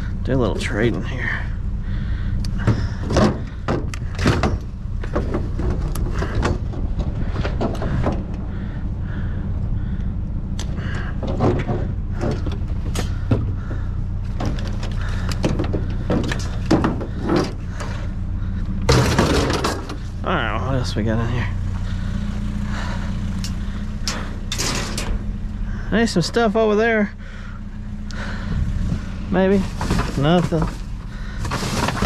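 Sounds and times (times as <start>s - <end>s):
junk clattering and scraping: 0.0s - 32.0s
steady low rumble: 0.0s - 32.0s.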